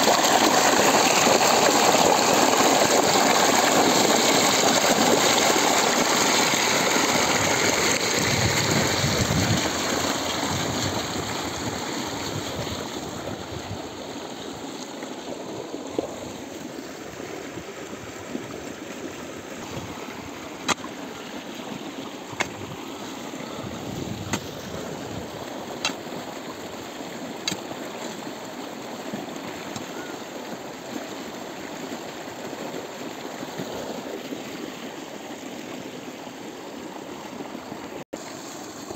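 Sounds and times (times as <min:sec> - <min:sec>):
water gushing from pipe: 0:00.0 - 0:35.4, 0:37.3 - 0:38.9.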